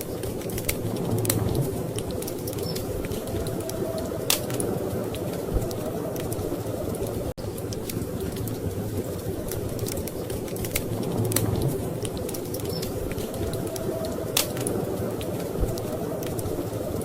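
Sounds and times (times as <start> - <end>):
storm wind rushing: 0.0 - 17.0
wood fire crackling: 0.0 - 17.0.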